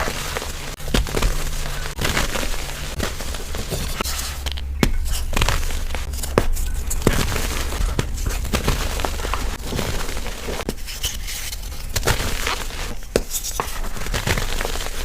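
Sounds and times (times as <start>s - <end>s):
powder block crunching by hand: 0.0s - 15.0s.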